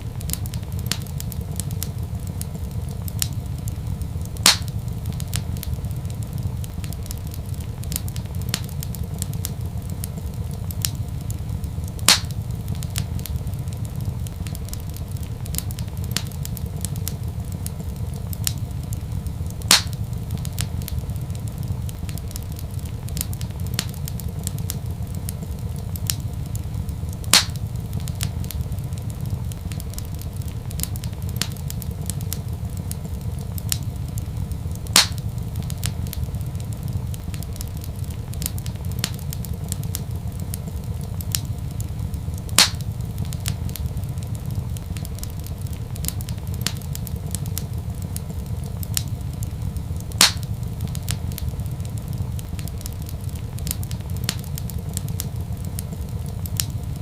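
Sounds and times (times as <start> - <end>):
loud fire pops: 0.0 - 57.0
wood fire crackling: 0.0 - 57.0.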